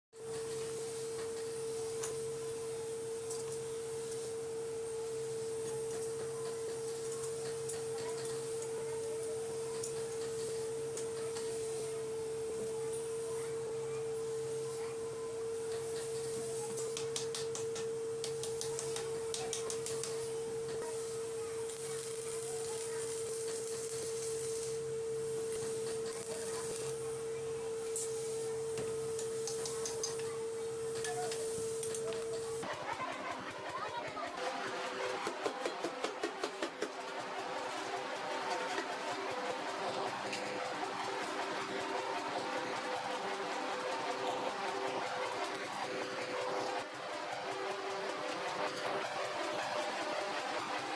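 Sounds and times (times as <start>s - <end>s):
high electrical hum: 0.2s - 50.9s.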